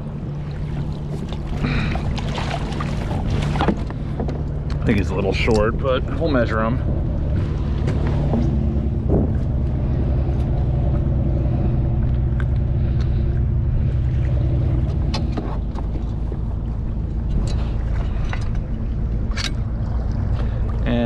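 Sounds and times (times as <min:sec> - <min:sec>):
low hum: 0:00.0 - 0:21.0
wind buffeting microphone: 0:00.8 - 0:20.9.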